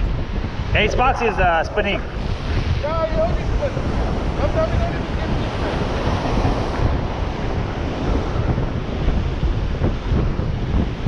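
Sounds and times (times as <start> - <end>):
wind buffeting microphone: 0.0 - 11.0
surf breaking against pier: 0.3 - 11.0.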